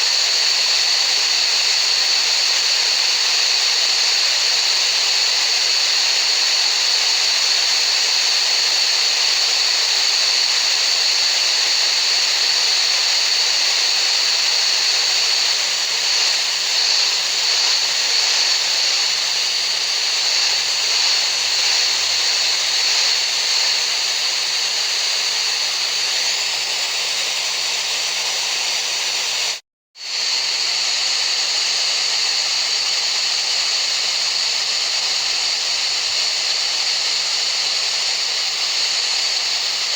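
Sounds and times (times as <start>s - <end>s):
high-pitched steady hiss: 0.0s - 39.9s.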